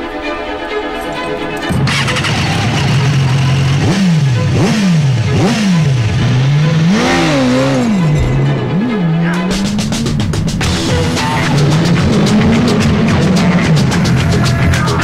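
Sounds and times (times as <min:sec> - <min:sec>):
motorcycle engine revving: 0:01.7 - 0:15.0.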